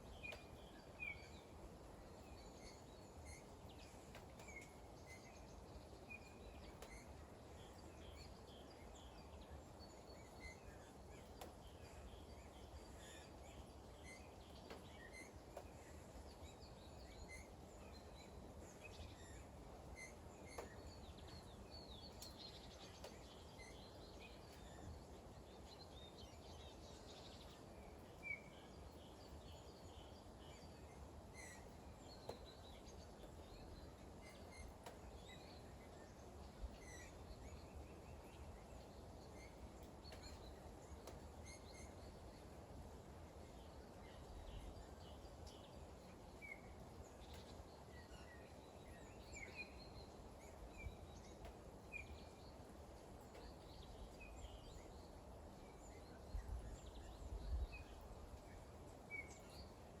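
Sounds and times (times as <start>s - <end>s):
light rain hiss: 0.0s - 60.0s.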